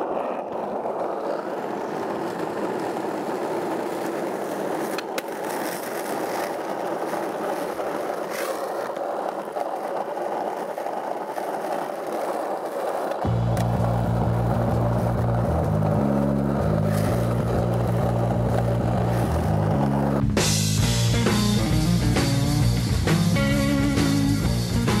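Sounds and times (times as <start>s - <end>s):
skateboard wheels rolling on asphalt: 0.0s - 25.0s.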